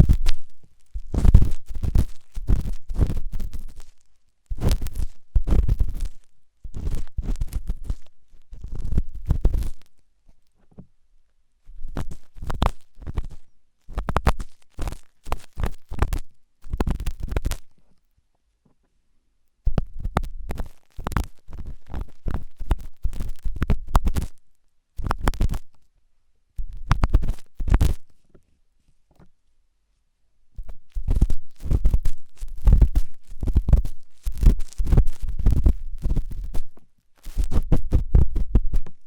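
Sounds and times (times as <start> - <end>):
ear pick scraping inside ear: 0.0 - 10.4, 11.8 - 17.8, 19.7 - 24.4, 25.0 - 25.8, 26.6 - 28.2, 30.6 - 39.0.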